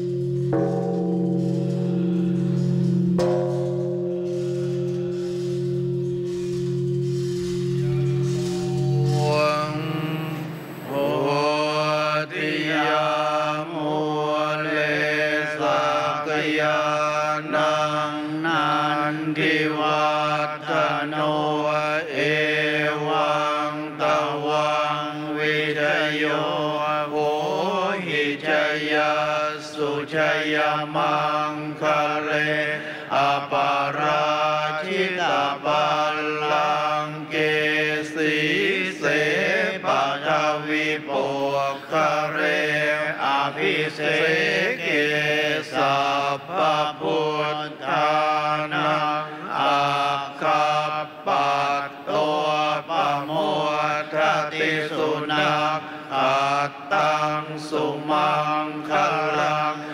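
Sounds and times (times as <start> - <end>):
monks chanting in unison: 0.0 - 59.9.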